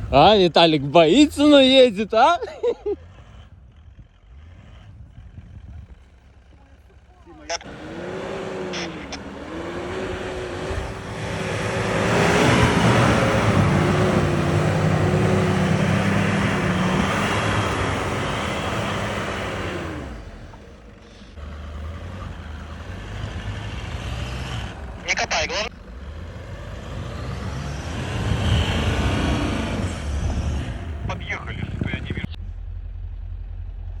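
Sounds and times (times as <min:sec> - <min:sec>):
suv engine running hard: 0:00.0 - 0:34.0.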